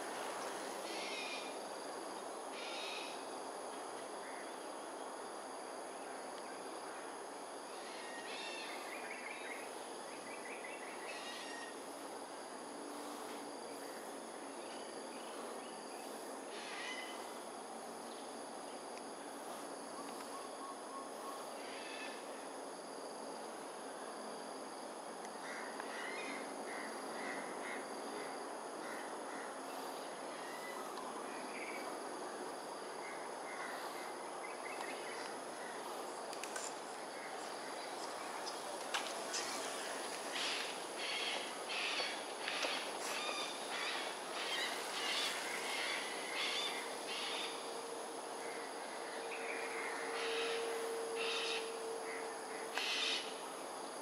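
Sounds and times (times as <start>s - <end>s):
high insect whine: 0.0s - 54.0s
steady background noise: 0.0s - 54.0s.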